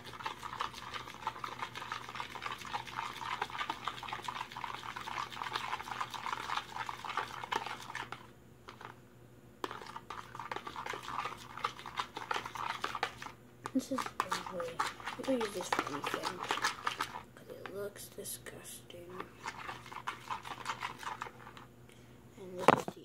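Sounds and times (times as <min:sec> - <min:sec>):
utensil scraping mixture in bowl: 0:00.0 - 0:09.0, 0:09.6 - 0:21.8.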